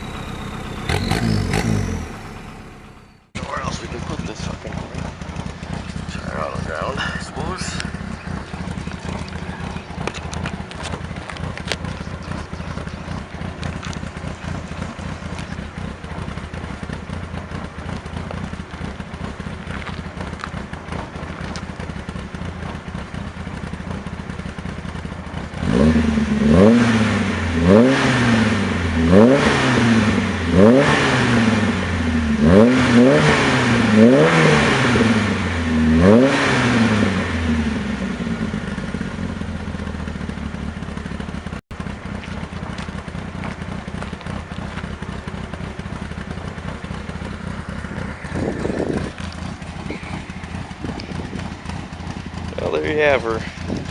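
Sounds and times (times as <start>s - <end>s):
car engine idling: 0.0s - 53.9s
car engine revving: 0.0s - 53.9s.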